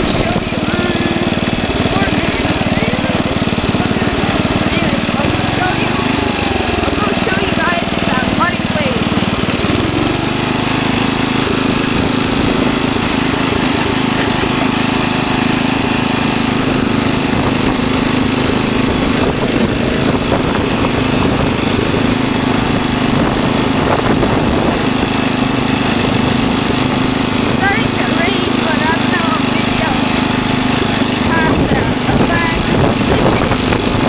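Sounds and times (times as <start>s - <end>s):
lawn tractor engine running: 0.0s - 34.0s.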